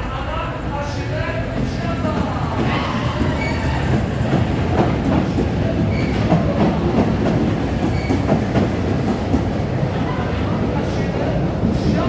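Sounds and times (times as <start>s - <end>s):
train rumbling: 0.0s - 12.0s
wheels clacking over track: 0.0s - 12.0s.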